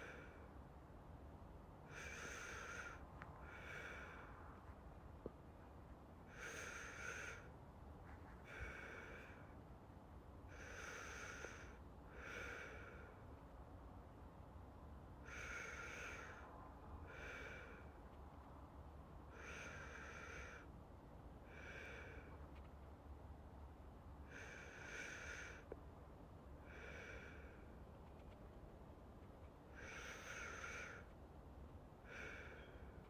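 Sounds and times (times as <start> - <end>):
slow soft breathing: 0.0 - 0.8, 1.8 - 9.8, 10.4 - 13.7, 15.2 - 23.0, 24.1 - 28.8, 29.4 - 33.0.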